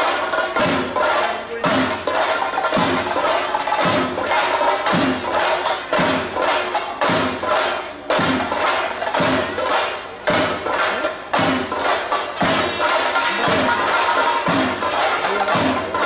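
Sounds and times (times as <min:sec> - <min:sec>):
drums beaten in a fast roll: 0:00.0 - 0:16.0
hand cymbals: 0:00.0 - 0:16.0.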